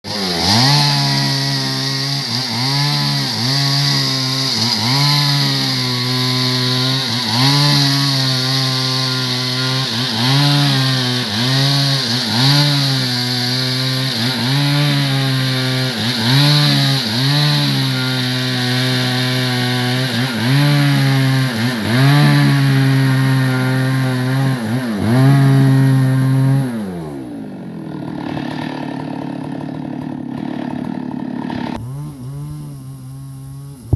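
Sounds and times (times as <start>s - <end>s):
chainsaw running at high revs: 0.0s - 33.9s.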